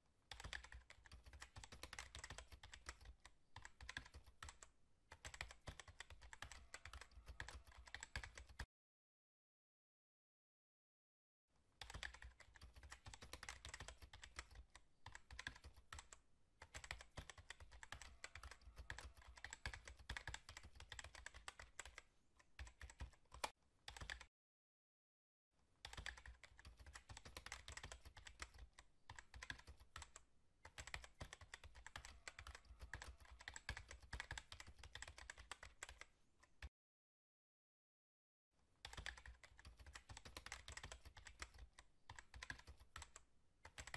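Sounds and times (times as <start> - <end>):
rapid keyboard typing: 0.3 - 8.7, 11.8 - 24.3, 25.8 - 36.7, 38.8 - 43.9.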